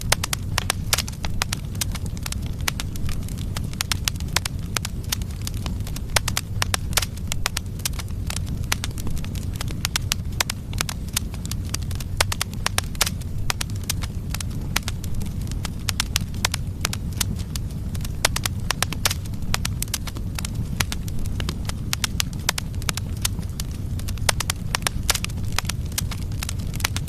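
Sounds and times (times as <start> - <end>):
burning logs crackling and popping: 0.0 - 27.0
fire flames rumbling: 0.0 - 27.0.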